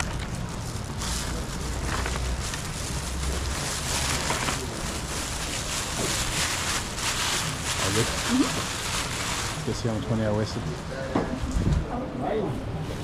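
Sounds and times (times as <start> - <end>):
plastic bag rustling: 0.0 - 11.4.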